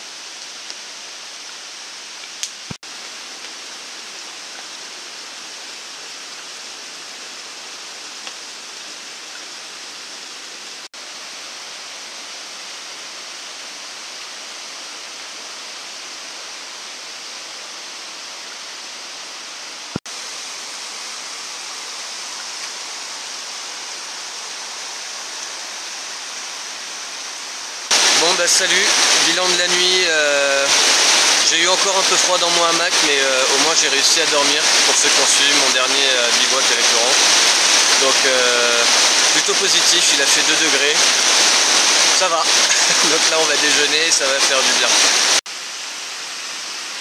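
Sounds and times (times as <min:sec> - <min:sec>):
water rushing: 0:00.0 - 0:47.0.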